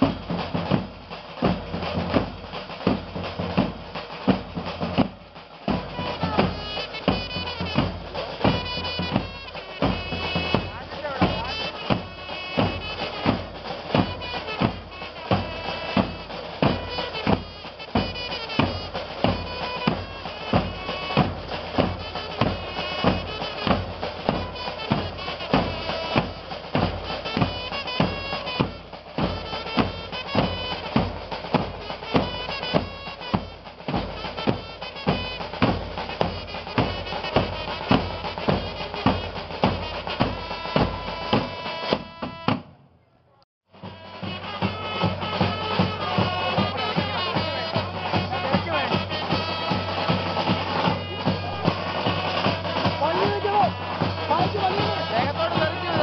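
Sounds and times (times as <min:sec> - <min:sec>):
reedy wind instrument melody: 0:00.0 - 0:42.7, 0:43.7 - 0:56.0
marching band drums: 0:00.0 - 0:42.9, 0:43.7 - 0:56.0.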